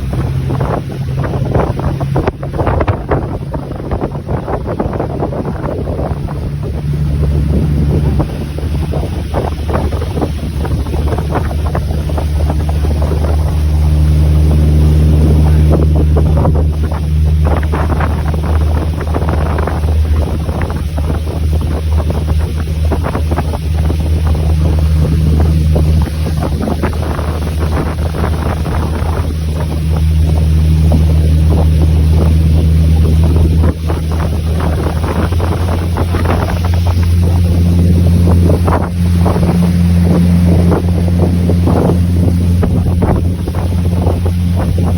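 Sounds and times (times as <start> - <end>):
engine droning: 0.0 - 44.9
wind buffeting microphone: 0.0 - 44.9.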